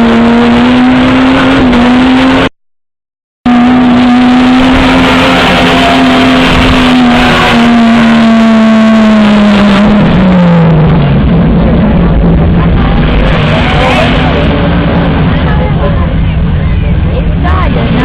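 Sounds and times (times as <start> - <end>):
truck engine revving: 0.0 - 2.6, 3.5 - 18.0.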